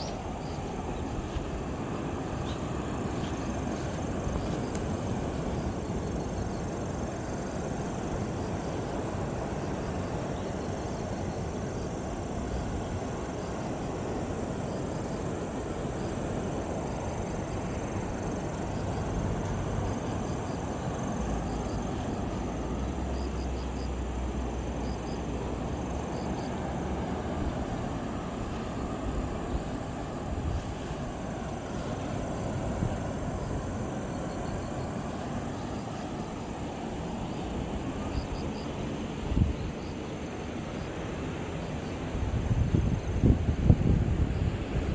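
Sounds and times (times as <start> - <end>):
sea noise: 0.0 - 44.9
wind: 0.0 - 44.9.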